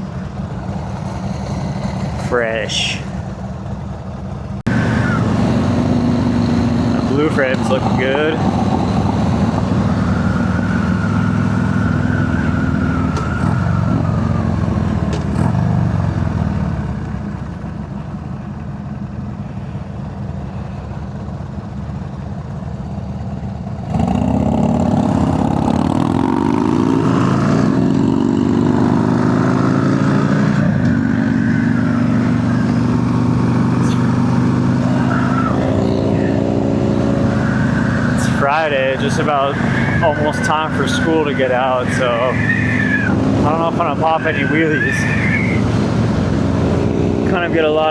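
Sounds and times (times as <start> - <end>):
motorcycle engine revving: 0.0 - 17.9, 23.6 - 47.9.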